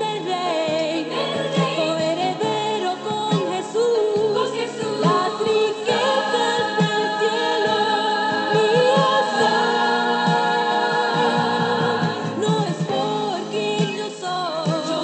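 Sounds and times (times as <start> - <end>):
choir singing worship song: 0.0 - 15.0.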